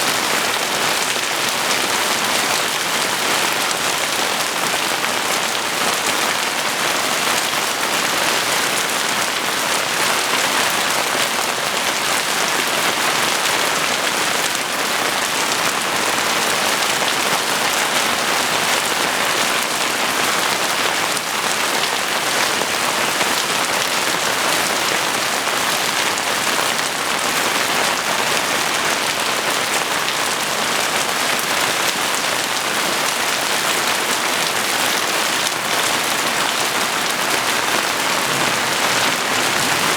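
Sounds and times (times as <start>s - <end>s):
heavy rain hitting surfaces: 0.0s - 39.9s.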